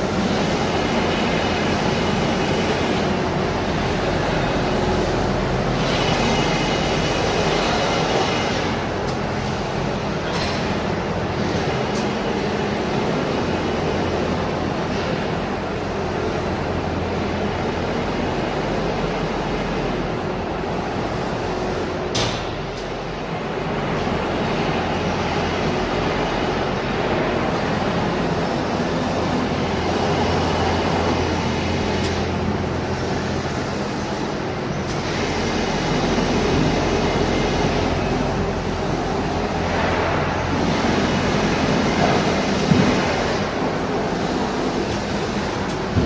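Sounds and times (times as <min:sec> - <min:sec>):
factory machinery humming: 0:00.0 - 0:46.0.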